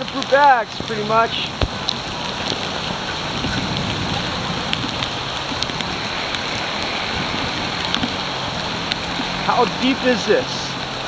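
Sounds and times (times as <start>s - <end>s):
bicycle splashing through floodwater: 0.0s - 11.0s
heavy rain pouring: 0.0s - 11.0s
raindrops ticking: 0.0s - 11.0s.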